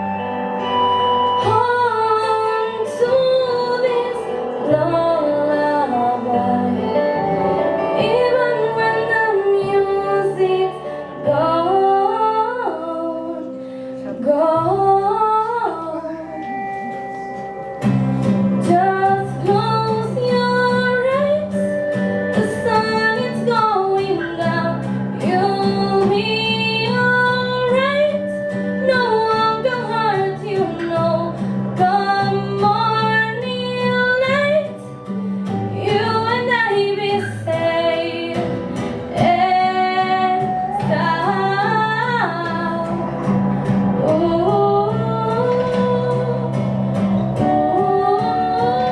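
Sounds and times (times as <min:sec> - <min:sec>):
held low instrumental chords: 0:00.0 - 0:36.7, 0:37.5 - 0:48.9
guitar: 0:00.0 - 0:48.9
woman singing: 0:01.2 - 0:16.5, 0:18.6 - 0:48.9.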